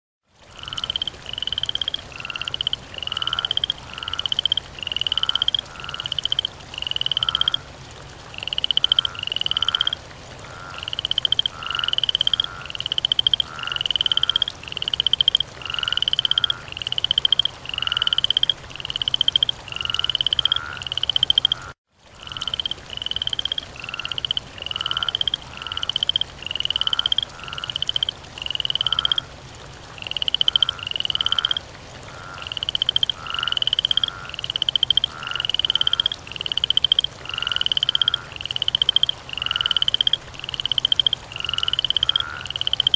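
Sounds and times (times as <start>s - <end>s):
frog croaking: 0.4s - 42.9s.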